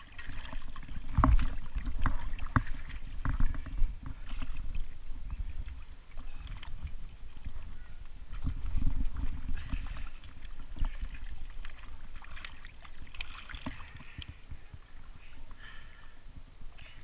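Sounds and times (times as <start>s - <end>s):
water sloshing and splashing: 0.0s - 15.7s.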